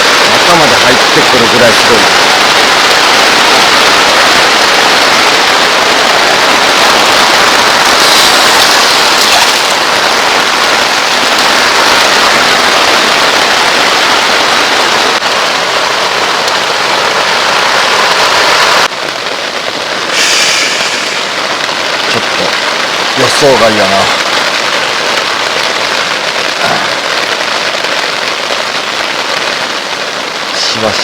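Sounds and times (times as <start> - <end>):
torrential rain pouring: 0.0 - 31.0.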